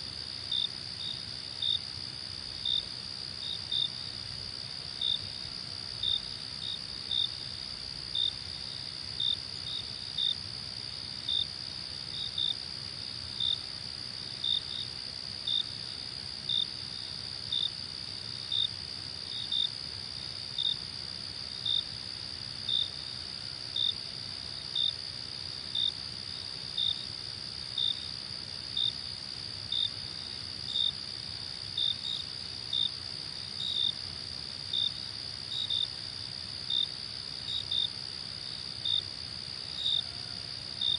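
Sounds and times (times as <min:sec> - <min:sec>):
cricket chirping: 0:00.0 - 0:40.9
crickets chorus: 0:00.0 - 0:40.9.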